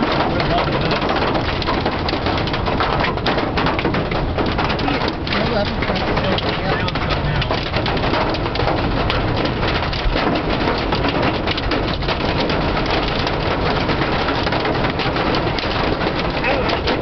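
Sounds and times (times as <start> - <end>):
hail and rain pelting car roof: 0.0 - 17.0.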